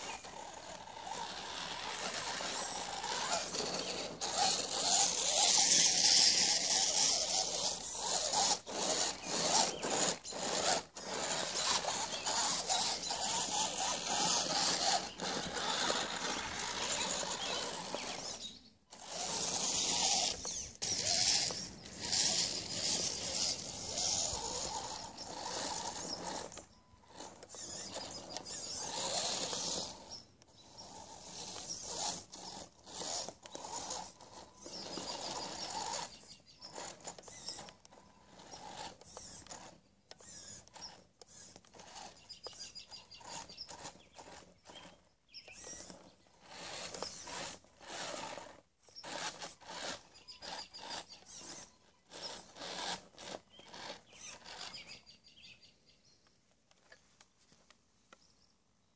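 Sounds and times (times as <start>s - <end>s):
wheels grinding over dirt: 0.0s - 55.8s
rc car motor whining: 0.0s - 57.1s.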